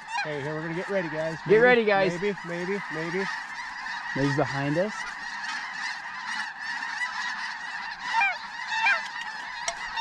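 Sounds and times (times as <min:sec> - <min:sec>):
flock of geese honking: 0:00.0 - 0:10.0
single louder goose calls: 0:00.0 - 0:10.0.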